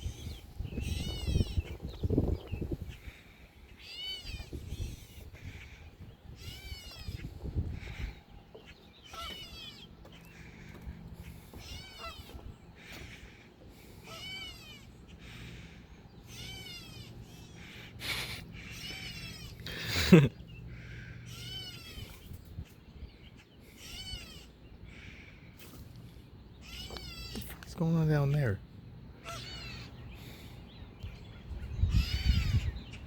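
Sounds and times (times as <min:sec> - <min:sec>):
bird calling: 0:00.0 - 0:33.0.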